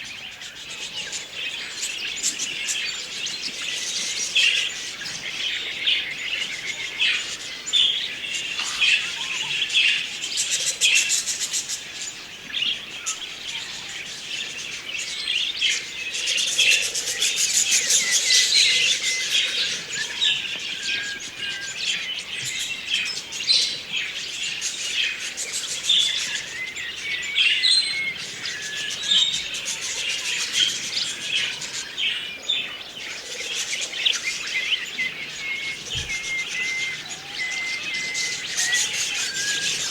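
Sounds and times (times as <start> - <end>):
budgerigars chirping and warbling: 0.3 - 39.9.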